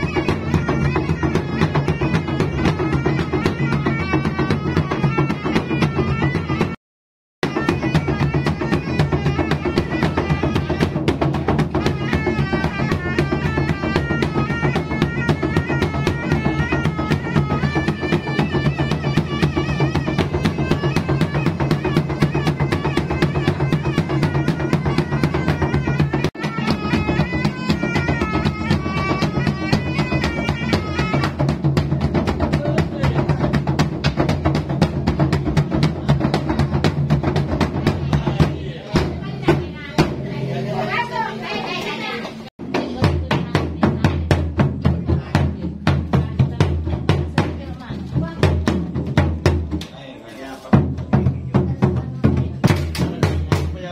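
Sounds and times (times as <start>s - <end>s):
barrel drums beating: 0.0s - 6.8s, 7.4s - 41.4s, 42.6s - 53.9s
reedy shawm melody: 0.0s - 6.8s, 7.4s - 49.6s.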